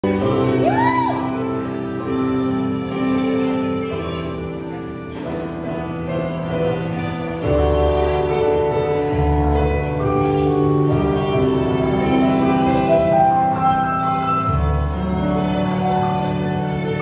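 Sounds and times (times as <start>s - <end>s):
live acoustic band playing: 1.6s - 17.0s.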